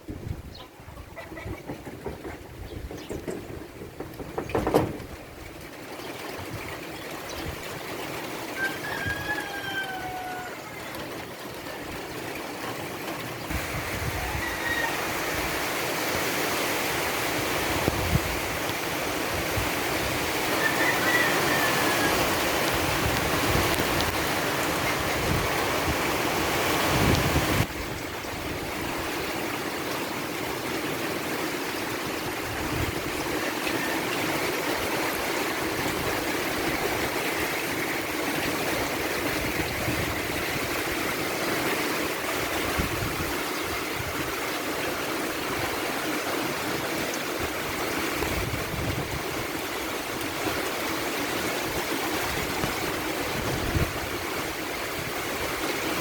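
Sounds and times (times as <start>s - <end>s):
steady rain falling: 0.8s - 56.0s.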